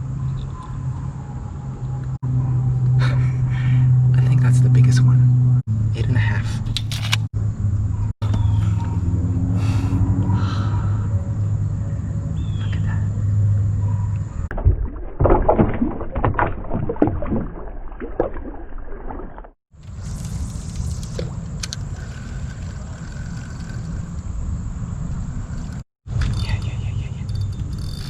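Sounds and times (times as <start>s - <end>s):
boat engine rumble: 0.0s - 15.0s, 17.5s - 28.0s.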